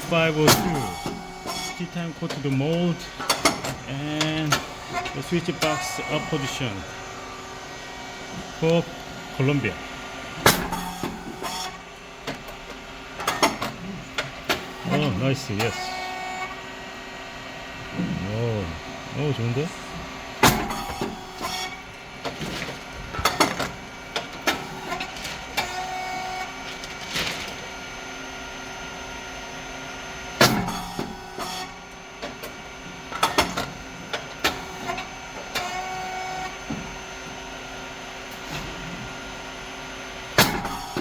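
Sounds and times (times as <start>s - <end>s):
motor and pump hum: 0.0s - 41.0s.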